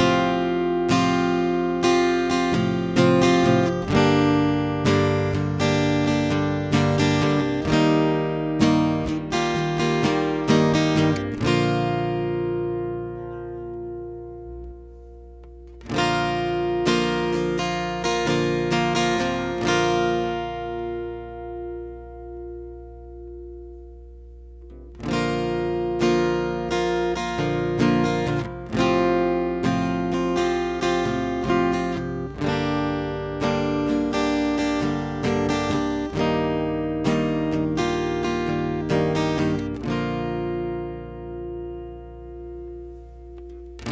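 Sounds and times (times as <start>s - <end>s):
acoustic guitar chords: 0.0s - 43.9s.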